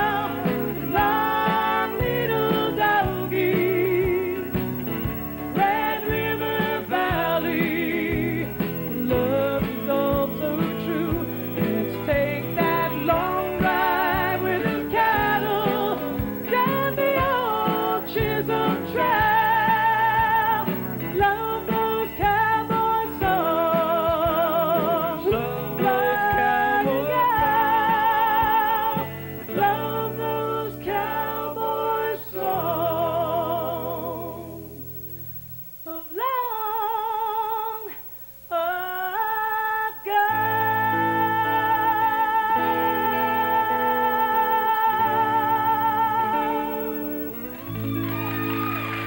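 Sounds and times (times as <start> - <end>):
live band playing: 0.0 - 31.5, 40.4 - 49.0
lead vocal with vibrato: 0.0 - 35.2, 35.8 - 49.0.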